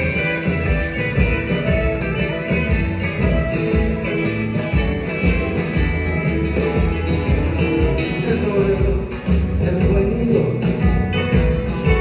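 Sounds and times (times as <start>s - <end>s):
drums: 0.0s - 12.0s
live blues-rock band playing: 0.0s - 12.0s
piano: 0.0s - 12.0s.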